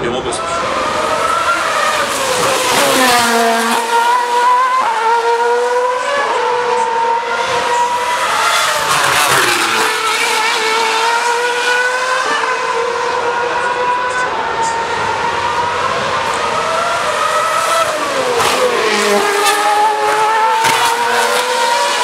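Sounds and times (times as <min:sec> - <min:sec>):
racing car engines screaming: 0:00.0 - 0:22.0.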